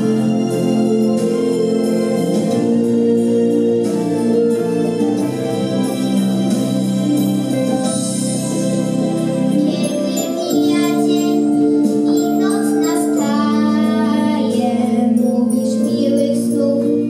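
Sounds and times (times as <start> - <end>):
organ-like keyboard chords: 0.0 - 17.0.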